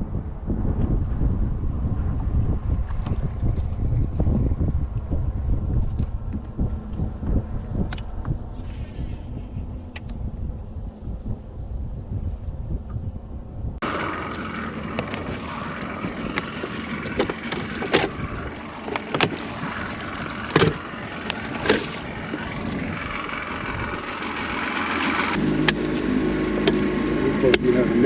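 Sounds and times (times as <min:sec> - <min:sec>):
wind on microphone: 0:00.0 - 0:26.6.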